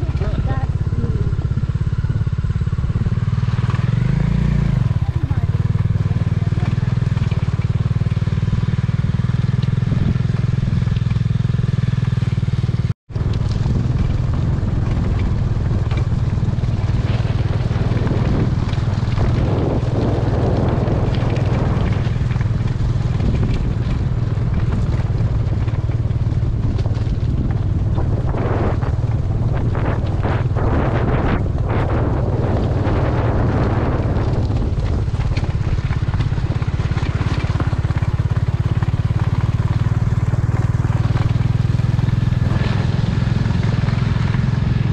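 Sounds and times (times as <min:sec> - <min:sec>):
wind on microphone: 0:00.0 - 0:11.2, 0:13.1 - 0:44.9
motorcycle engine running: 0:00.0 - 0:44.9.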